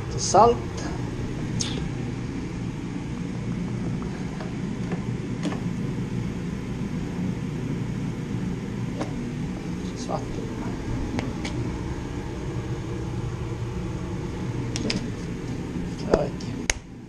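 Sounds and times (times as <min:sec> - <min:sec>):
low fan-like hum: 0:00.0 - 0:17.0.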